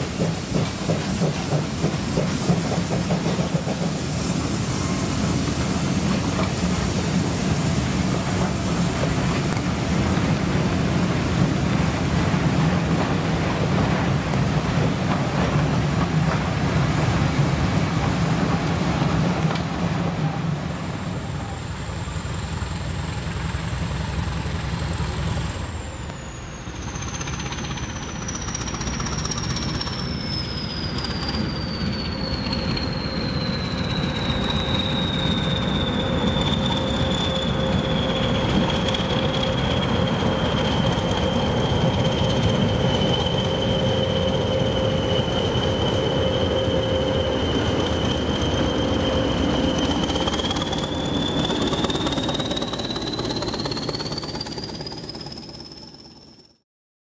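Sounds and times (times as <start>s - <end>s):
diesel locomotive high whine: 0.0s - 56.6s
train wheels rumbling on rails: 0.0s - 56.6s.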